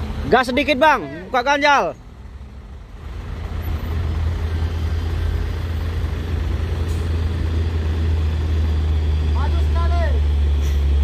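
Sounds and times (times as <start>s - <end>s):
truck engine under load: 0.0s - 11.0s.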